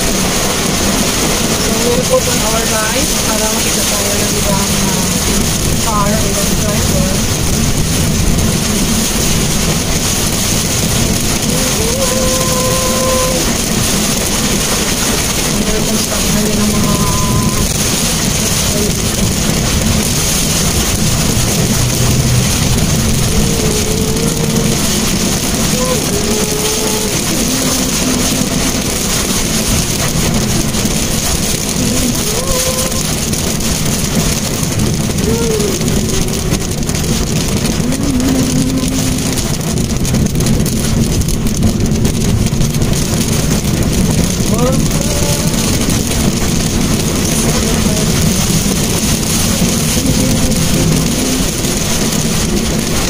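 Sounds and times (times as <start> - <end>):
car engine and tyres: 0.0 - 53.0
rain on windshield: 0.0 - 53.0.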